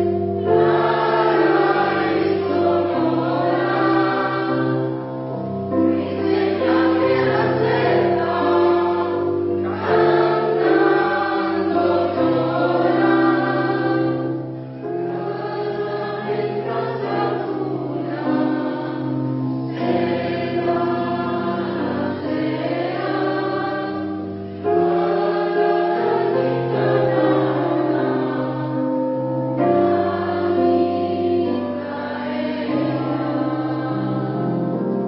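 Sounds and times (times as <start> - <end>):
mixed choir singing: 0.0 - 35.0.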